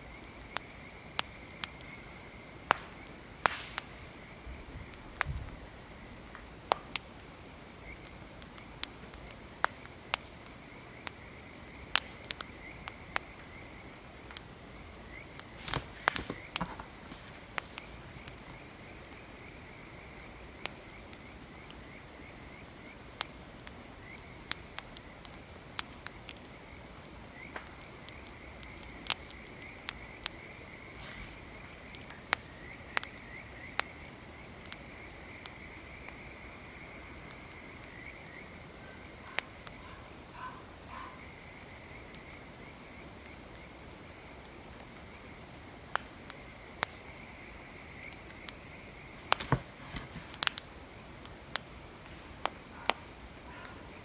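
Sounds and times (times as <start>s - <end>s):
wood fire crackling and popping: 0.1s - 40.4s, 42.1s - 54.0s.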